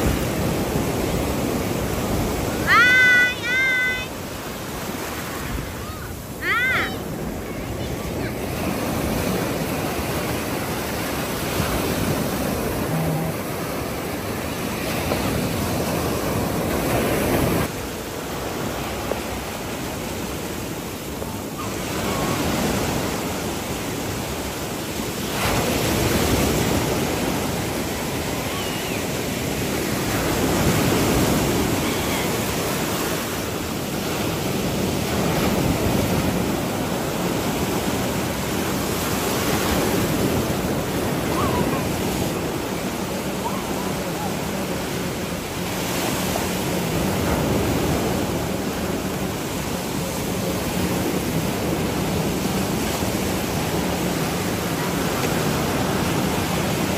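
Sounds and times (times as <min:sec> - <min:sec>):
surf waves breaking on beach: 0:00.0 - 0:56.9.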